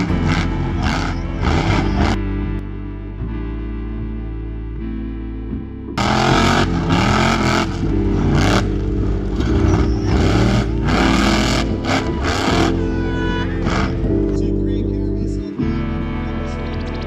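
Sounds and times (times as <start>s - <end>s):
buggy engine revving: 0.0s - 3.5s, 6.0s - 17.0s.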